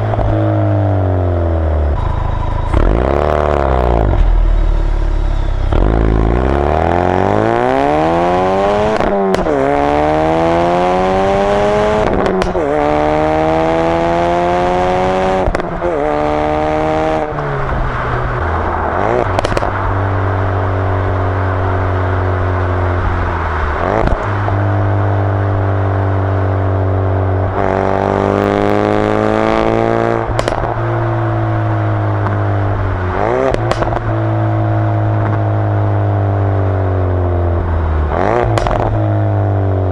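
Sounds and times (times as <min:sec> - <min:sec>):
car exhaust accelerating: 0:00.0 - 0:39.9.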